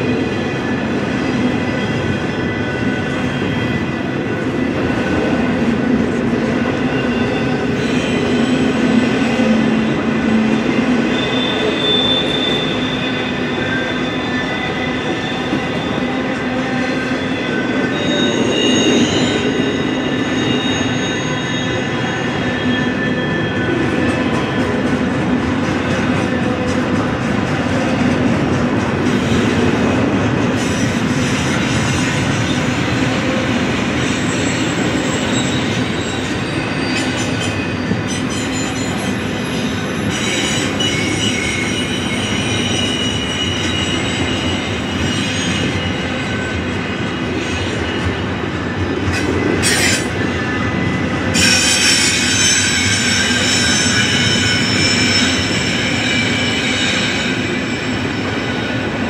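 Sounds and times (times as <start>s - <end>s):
freight train rumbling past: 0.0s - 59.0s
train wheel squeal: 0.0s - 59.0s.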